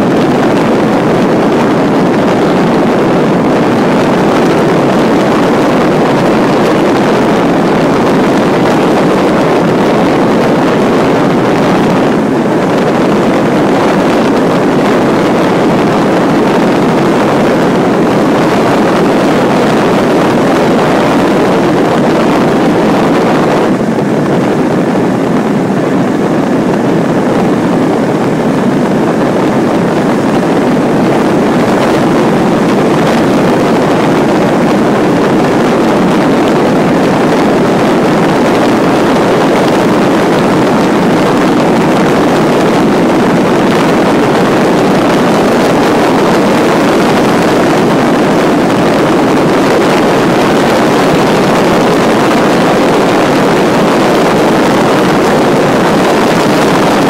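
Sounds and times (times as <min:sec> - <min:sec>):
airflow rushing around cockpit: 0:00.0 - 0:57.0.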